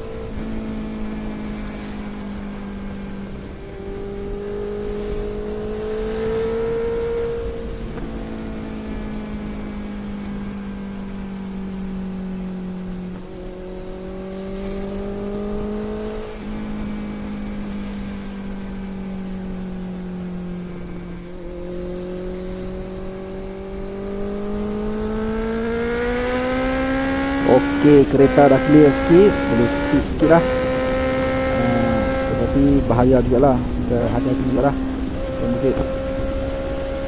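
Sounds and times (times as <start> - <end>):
motorcycle engine cruising: 0.0 - 37.0
wind and road noise: 0.0 - 37.0.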